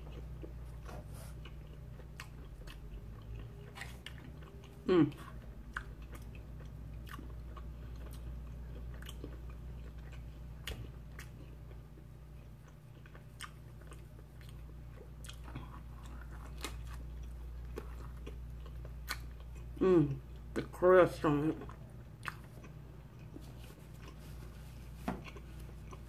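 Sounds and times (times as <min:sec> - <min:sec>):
person chewing: 0:00.0 - 0:20.8, 0:21.4 - 0:26.0
steady low hum: 0:00.0 - 0:26.0.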